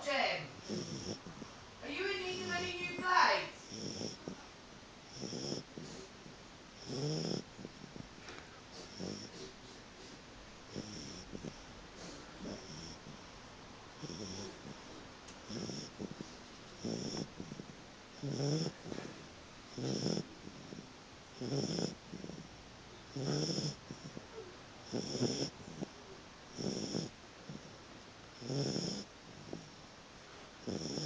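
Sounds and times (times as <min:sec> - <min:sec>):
puppy snoring: 0:00.1 - 0:29.9, 0:30.6 - 0:31.0.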